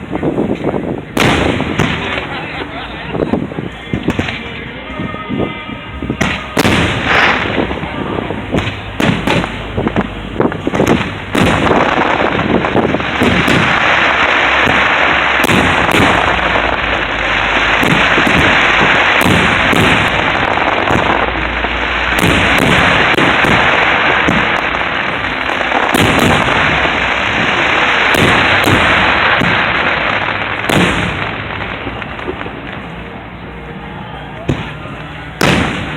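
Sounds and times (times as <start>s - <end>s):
fireworks bangs and crackle: 0.0s - 35.9s.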